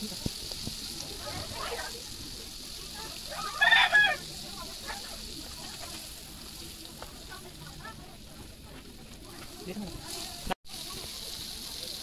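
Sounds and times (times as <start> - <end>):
pancake sizzling in oil: 0.0 - 12.0.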